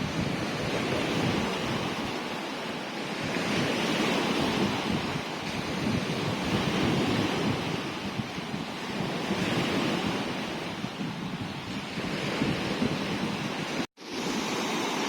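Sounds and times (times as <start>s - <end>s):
wind buffeting microphone: 0.0s - 14.4s
waves breaking: 0.0s - 15.0s.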